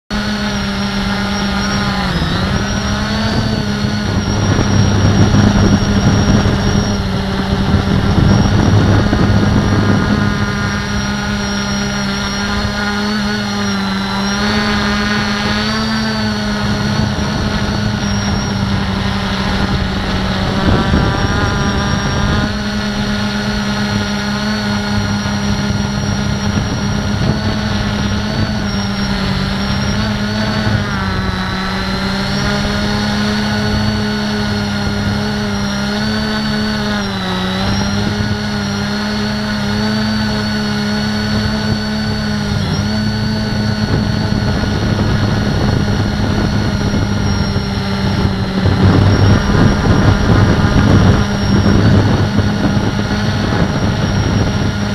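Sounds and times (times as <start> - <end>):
quadcopter propellers whining hum: 0.0 - 54.9
wind noise: 0.1 - 54.9.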